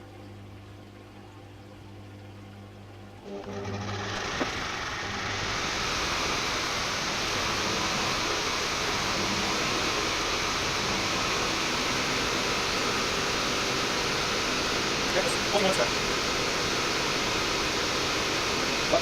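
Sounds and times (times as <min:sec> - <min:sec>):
washing machine water rushing: 0:00.0 - 0:19.0.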